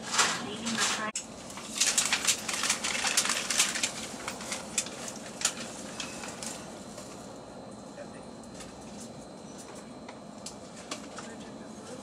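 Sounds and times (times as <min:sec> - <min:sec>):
clicks and crackles: 0:00.1 - 0:07.2, 0:08.5 - 0:11.4.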